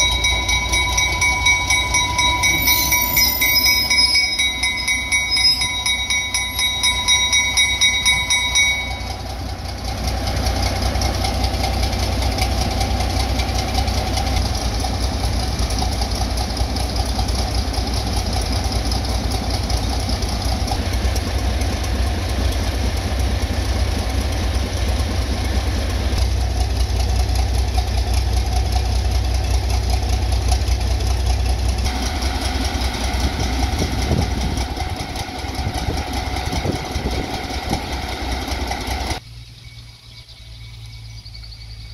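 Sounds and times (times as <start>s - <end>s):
locomotive idling: 0.0s - 39.3s.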